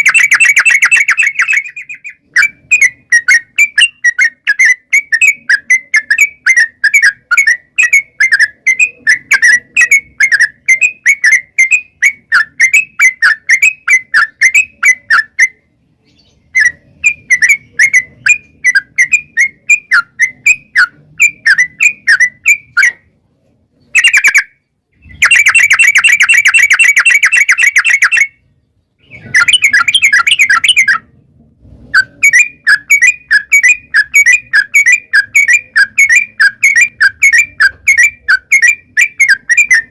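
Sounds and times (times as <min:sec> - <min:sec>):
bird chattering song: 0:00.0 - 0:23.1, 0:23.8 - 0:31.2, 0:32.0 - 0:39.9.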